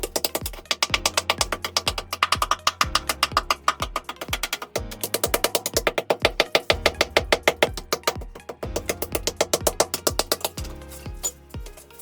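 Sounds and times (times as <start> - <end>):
percussive music with bass line: 0.0 - 12.0.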